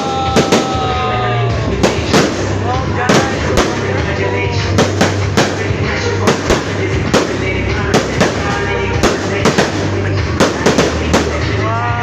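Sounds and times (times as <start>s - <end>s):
fireworks bangs: 0.0s - 11.8s
background music: 0.0s - 12.0s
voices: 0.0s - 12.0s.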